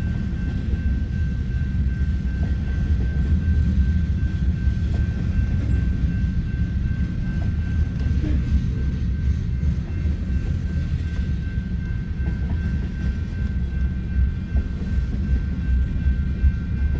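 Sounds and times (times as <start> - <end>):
train wheels rumbling on rail: 0.0 - 16.9.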